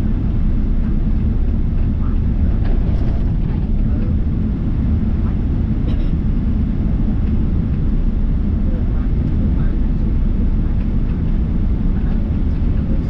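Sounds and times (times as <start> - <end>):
airliner engines rumbling in cabin: 0.0 - 13.0.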